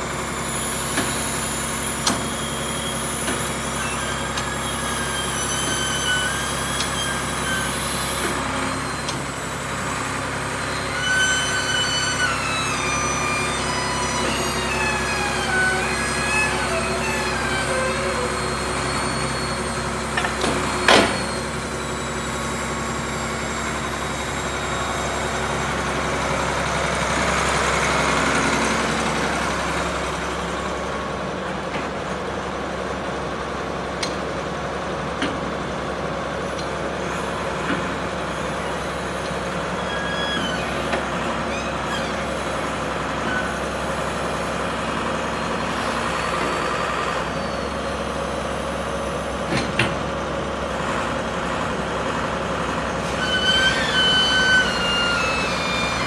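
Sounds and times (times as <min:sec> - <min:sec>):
diesel engine and hydraulics running: 0:00.0 - 0:56.0.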